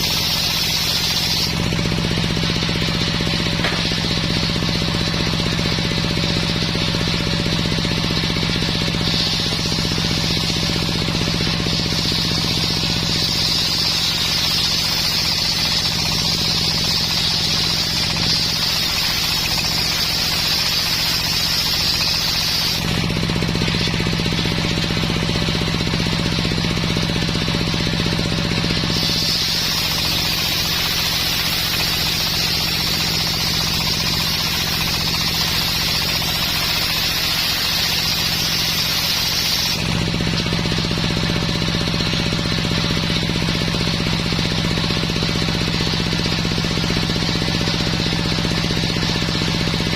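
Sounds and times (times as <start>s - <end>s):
saw blade hissing: 0.0s - 49.9s
sawmill drive humming: 0.0s - 49.9s.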